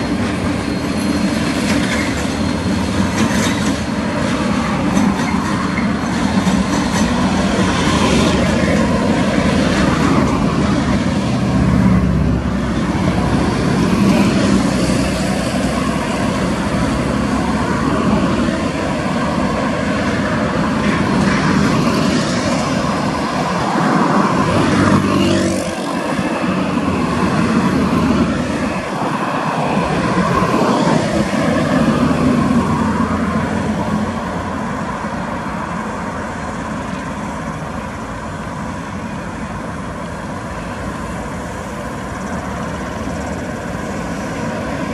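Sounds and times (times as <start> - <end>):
diesel locomotive engine running: 0.0 - 44.9.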